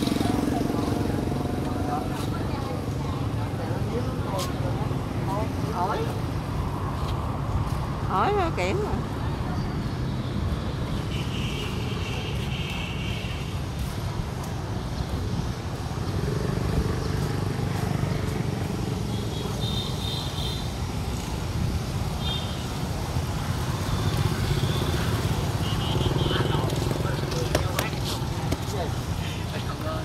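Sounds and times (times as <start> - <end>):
motorbikes passing: 0.0 - 30.0.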